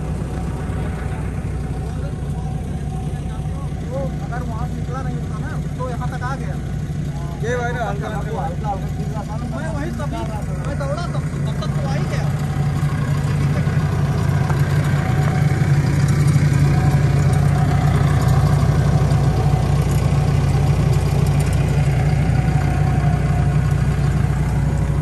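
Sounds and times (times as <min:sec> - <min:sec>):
excavator diesel engine idling: 0:00.0 - 0:25.0.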